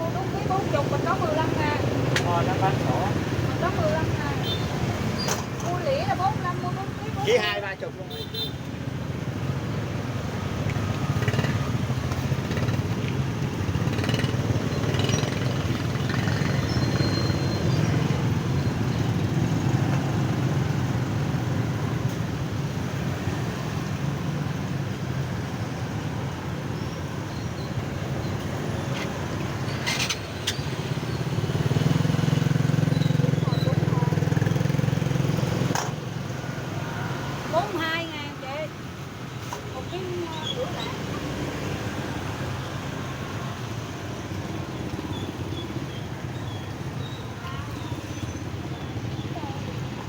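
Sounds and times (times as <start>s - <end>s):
street noise: 0.0s - 50.0s.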